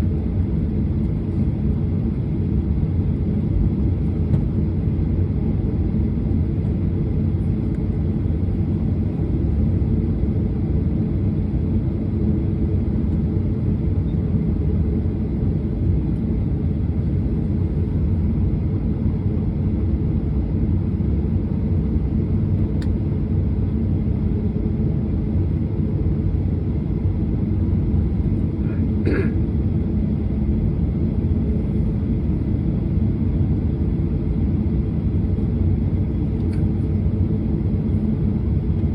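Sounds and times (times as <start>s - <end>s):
jet engines idling rumble: 0.0s - 38.9s.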